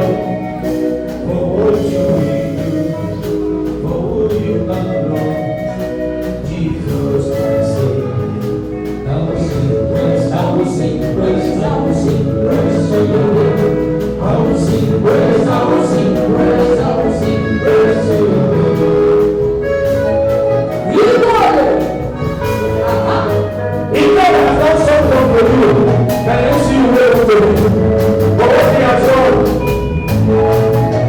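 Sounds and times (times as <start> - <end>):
group singing gospel song: 0.0 - 31.0.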